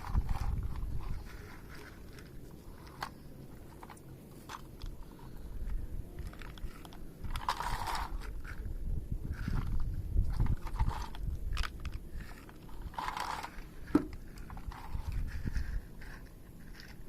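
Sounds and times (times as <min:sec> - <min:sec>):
crunching and clicking: 0:00.0 - 0:17.0.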